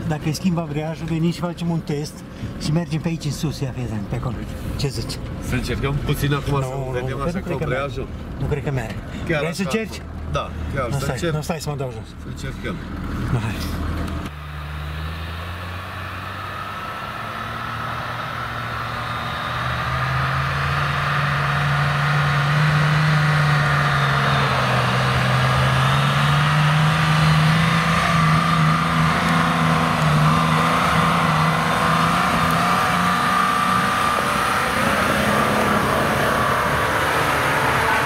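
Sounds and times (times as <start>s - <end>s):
diesel engine pulling uphill: 0.0s - 38.0s.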